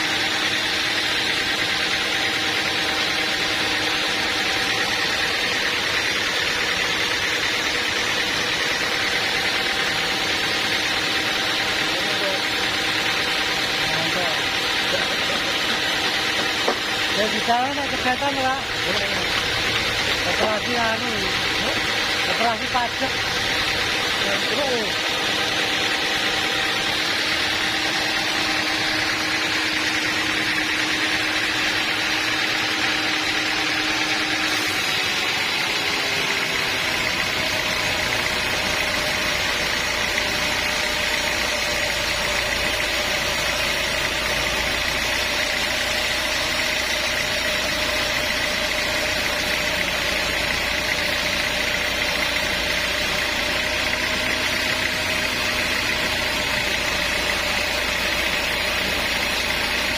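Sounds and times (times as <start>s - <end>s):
machine engine running: 0.0s - 59.9s.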